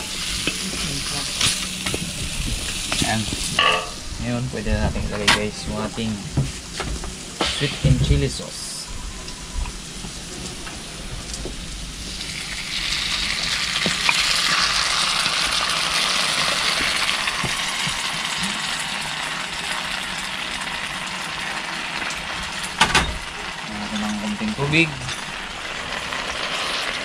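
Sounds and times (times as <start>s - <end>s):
sauce sizzling in a wok: 0.0s - 4.4s, 5.9s - 27.0s.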